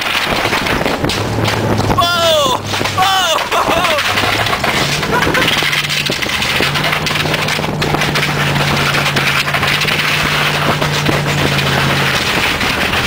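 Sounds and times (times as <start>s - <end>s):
clicks and rattles: 0.0s - 2.0s, 2.6s - 13.0s
loud constant rushing noise: 0.0s - 13.0s
pickup truck engine running: 0.0s - 13.0s.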